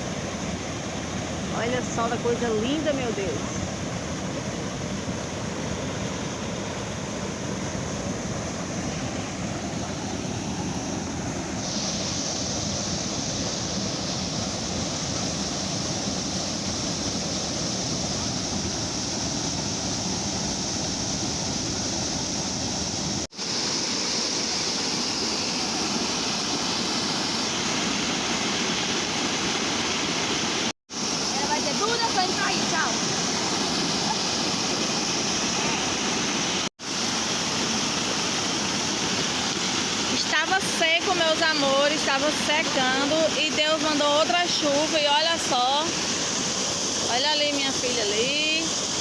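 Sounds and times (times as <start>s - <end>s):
waterfall roaring: 0.0s - 49.0s.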